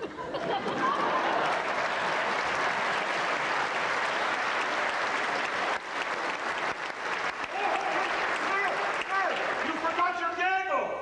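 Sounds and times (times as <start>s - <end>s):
audience applauding: 0.4s - 10.6s.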